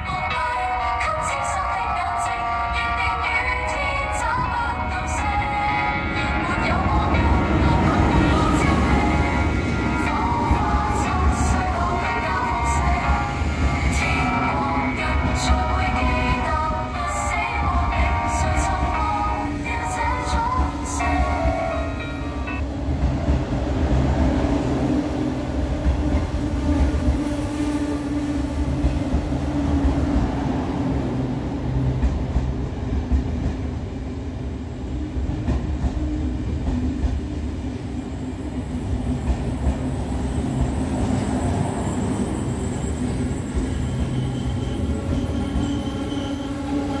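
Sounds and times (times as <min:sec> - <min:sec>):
train rumbling on rails: 0:00.0 - 0:47.0.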